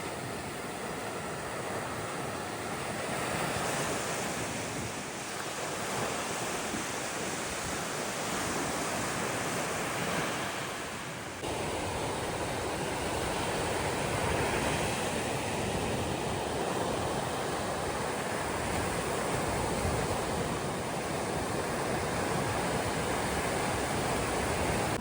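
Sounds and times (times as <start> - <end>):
sea surf washing onto beach: 0.0 - 25.0.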